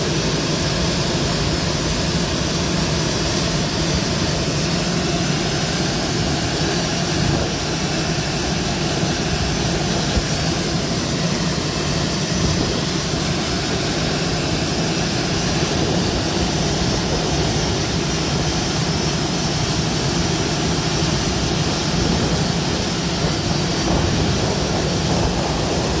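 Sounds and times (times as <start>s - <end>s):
jet engine running: 0.0s - 26.0s.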